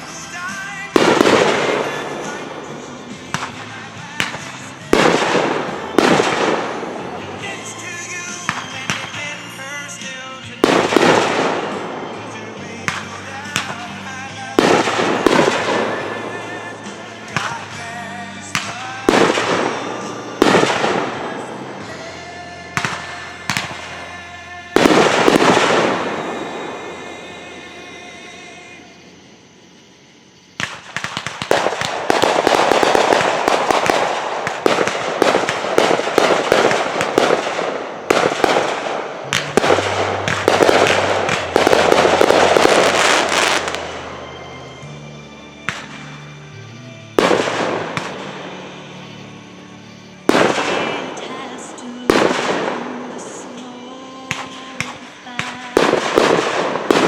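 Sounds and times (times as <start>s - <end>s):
fireworks bangs: 0.0s - 29.5s, 30.3s - 44.9s, 45.6s - 46.3s, 47.1s - 49.2s, 49.8s - 57.0s
rapid crackling fireworks bursts: 0.0s - 44.6s, 47.1s - 57.0s.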